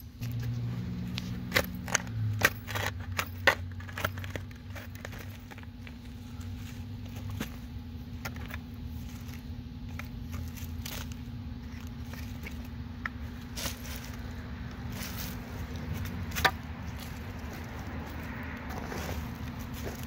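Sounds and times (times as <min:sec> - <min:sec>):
steady low hum: 0:00.0 - 0:20.0
shovel scraping and knocking soil: 0:00.2 - 0:20.0.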